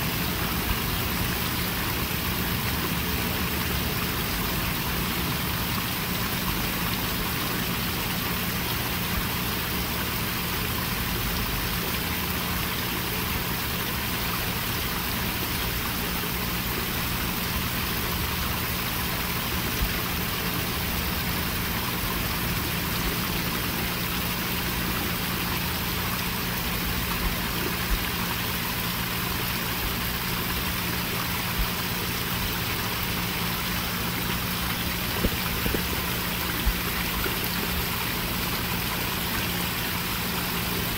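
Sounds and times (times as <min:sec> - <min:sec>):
small waterfall splashing over rocks: 0:00.0 - 0:40.9
steady low hum: 0:00.0 - 0:40.9.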